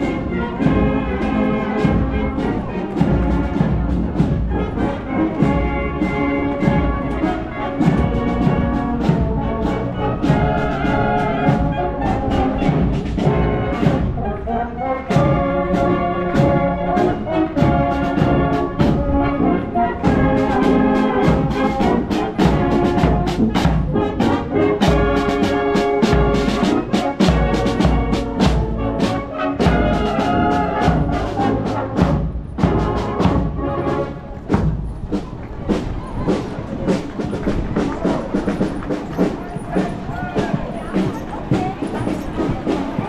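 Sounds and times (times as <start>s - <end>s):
marching brass band playing: 0.0s - 43.0s.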